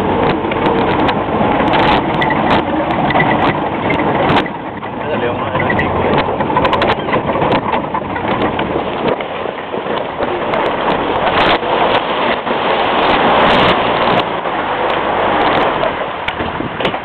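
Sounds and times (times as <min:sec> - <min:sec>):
body knocks and rattles: 0:00.0 - 0:14.3
engine and road rumble: 0:00.0 - 0:17.0
wheels splashing through water: 0:00.0 - 0:17.0.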